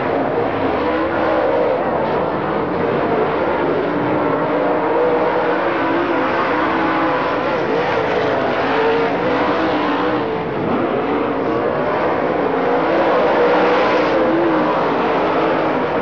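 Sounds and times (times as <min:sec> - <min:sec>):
racing engines running: 0:00.0 - 0:16.0.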